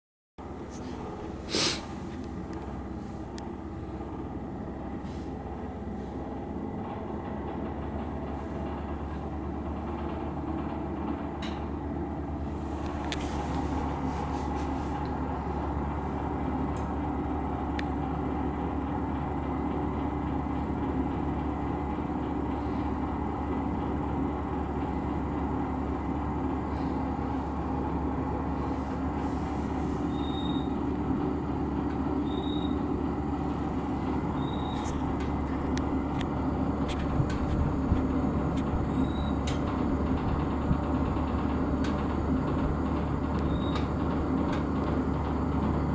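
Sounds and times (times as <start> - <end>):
heater humming: 0.4 - 45.9.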